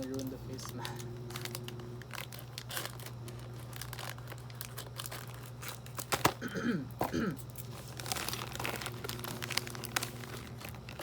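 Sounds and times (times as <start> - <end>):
candy packaging crinkling: 0.0 - 6.5, 7.4 - 11.0.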